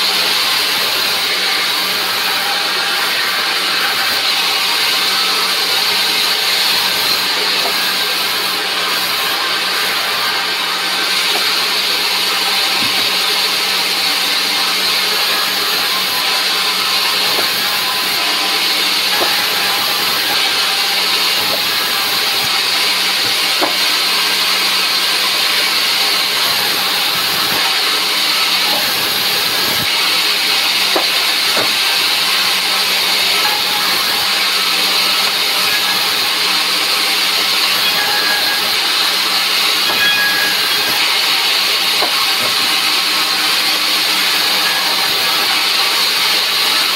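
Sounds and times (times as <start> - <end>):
band saw cutting wood: 0.0 - 46.9.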